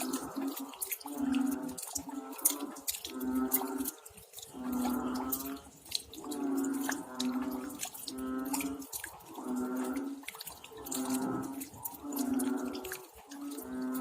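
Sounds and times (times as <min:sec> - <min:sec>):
low animal calls: 0:00.0 - 0:14.0
rain dripping: 0:00.0 - 0:14.0.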